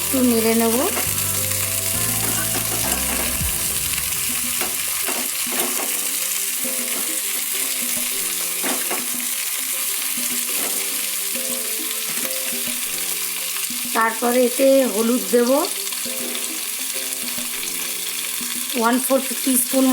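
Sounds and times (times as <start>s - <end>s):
quiet background music: 0.0s - 19.9s
vegetables sizzling in hot oil: 0.0s - 19.9s.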